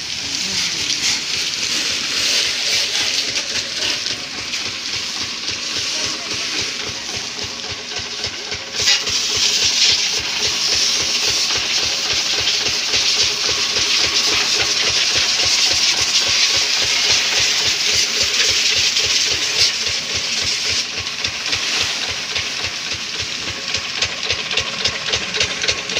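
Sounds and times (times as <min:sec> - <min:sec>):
engine running: 0:00.0 - 0:25.9
pressure washer spraying: 0:00.0 - 0:25.9.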